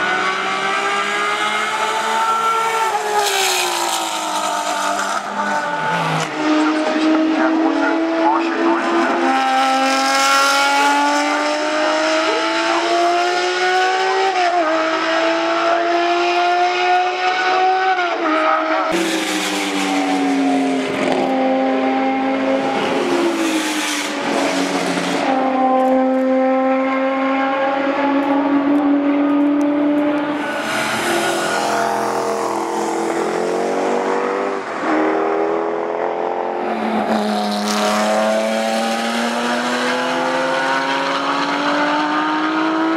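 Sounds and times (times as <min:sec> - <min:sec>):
racing car engines at high revs: 0:00.0 - 0:42.9.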